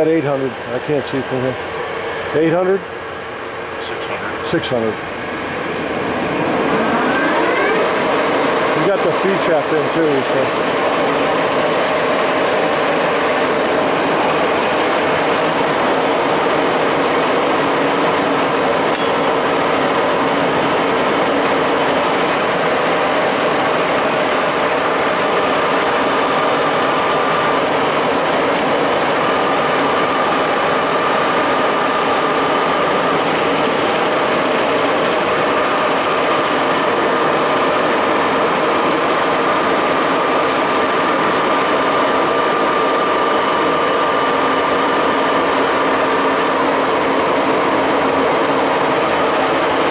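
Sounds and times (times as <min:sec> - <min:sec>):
high steady whine: 0:00.0 - 0:49.9
lathe running: 0:00.0 - 0:49.9.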